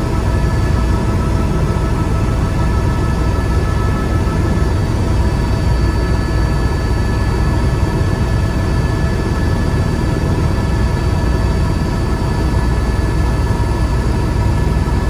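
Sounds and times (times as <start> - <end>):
faint high whining tones: 0.0 - 15.0
helicopter rotor and engine rumble: 0.0 - 15.0.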